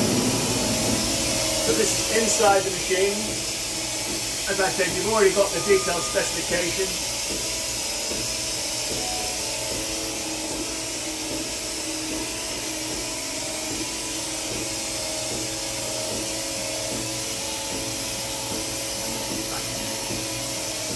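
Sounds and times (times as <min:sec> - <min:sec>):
machine humming and hissing: 0:00.0 - 0:20.9.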